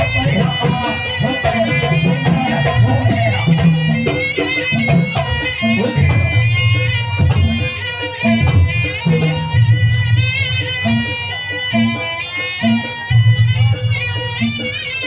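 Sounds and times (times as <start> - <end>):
hand-drum strokes: 0.0 - 15.0
high wavering melody: 0.0 - 15.0.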